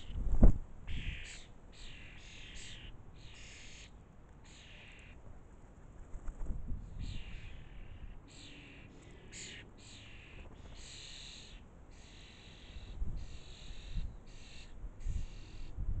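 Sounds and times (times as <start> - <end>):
young starlings begging calls: 0.9 - 5.2, 6.9 - 15.8.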